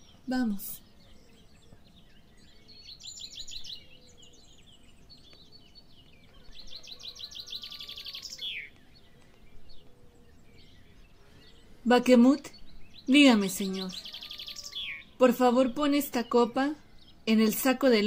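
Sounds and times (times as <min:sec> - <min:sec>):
birds chirping in fast trills: 0:00.0 - 0:18.0.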